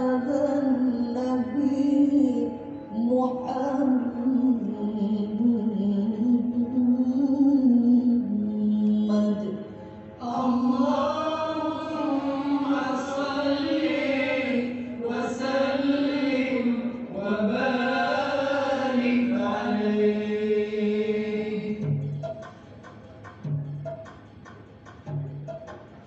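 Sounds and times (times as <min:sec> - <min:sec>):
person chanting devotional song: 0:00.0 - 0:22.1.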